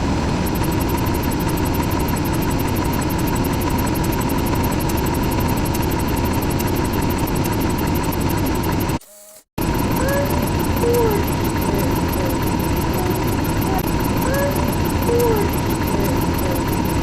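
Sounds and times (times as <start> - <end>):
fast fine ticking: 0.4 - 9.0, 9.6 - 17.0.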